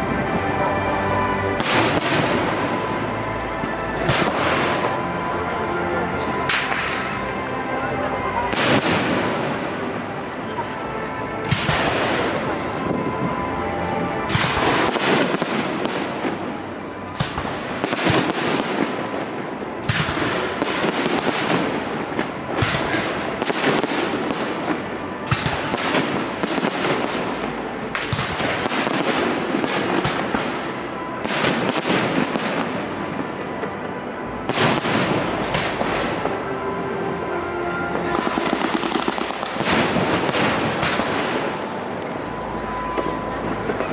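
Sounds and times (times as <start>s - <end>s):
firework bangs and crackling: 0.0s - 5.3s, 5.9s - 7.3s, 8.4s - 10.7s, 11.3s - 43.9s.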